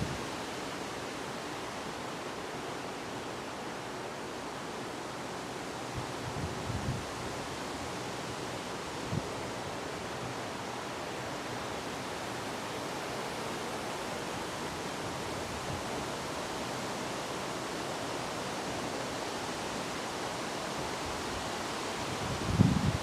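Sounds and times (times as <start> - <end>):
wind blowing through trees: 0.0 - 23.0.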